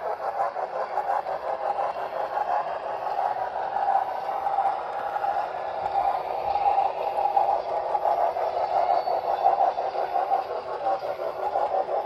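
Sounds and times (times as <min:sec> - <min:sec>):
model train wheels whirring: 0:00.0 - 0:12.0.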